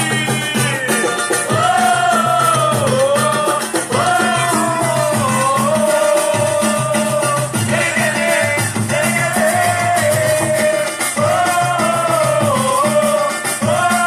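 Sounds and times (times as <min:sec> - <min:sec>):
person singing: 0:00.0 - 0:14.0
samba music: 0:00.0 - 0:14.0.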